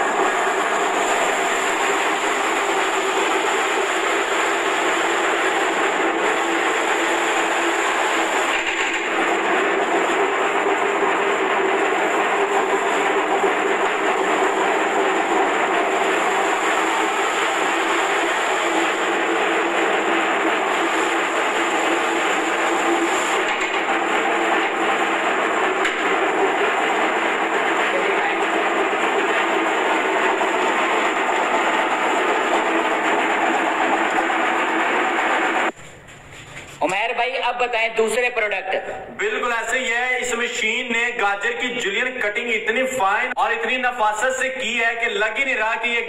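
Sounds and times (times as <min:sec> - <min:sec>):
vegetable cutting machine running: 0:00.0 - 0:46.0.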